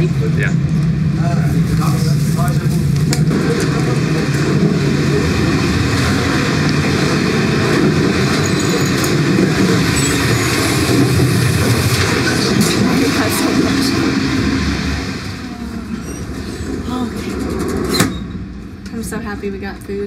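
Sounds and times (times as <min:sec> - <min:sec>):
train carriage rolling noise: 0:00.0 - 0:20.0.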